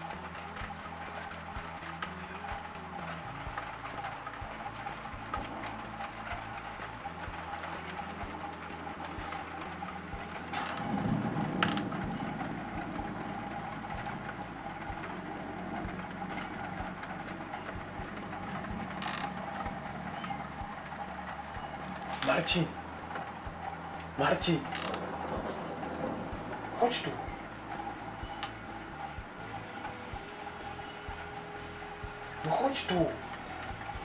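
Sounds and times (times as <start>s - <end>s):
heavy rain hissing: 0.0s - 34.0s
thunder rumbling: 0.0s - 34.0s.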